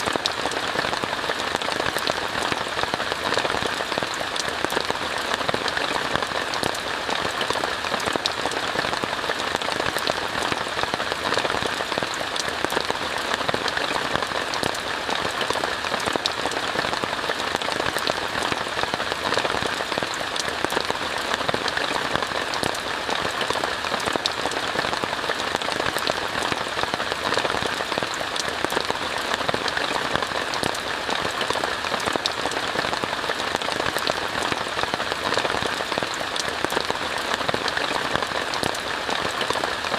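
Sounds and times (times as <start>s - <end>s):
rain falling on a tent: 0.0s - 39.9s.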